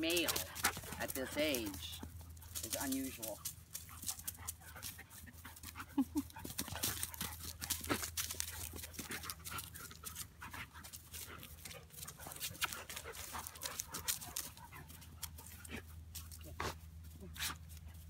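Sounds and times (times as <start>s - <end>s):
dogs scuffling on grass and leaves: 0.0s - 18.0s.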